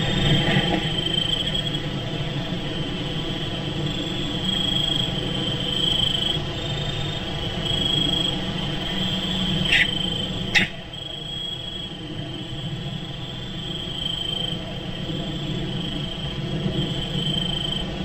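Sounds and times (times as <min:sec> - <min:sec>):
high-pitched insect trill: 0:00.0 - 0:18.0
steady low hum: 0:00.0 - 0:18.0.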